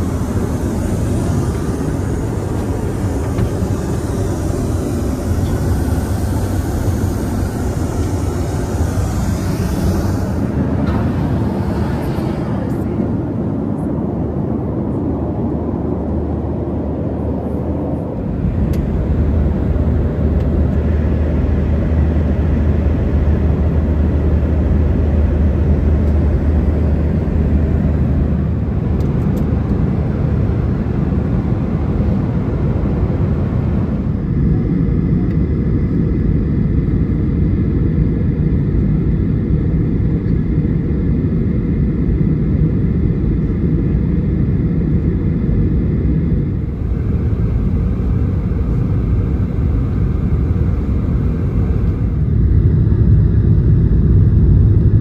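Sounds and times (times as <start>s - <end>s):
airliner cabin rumbling hiss: 0.0s - 55.0s.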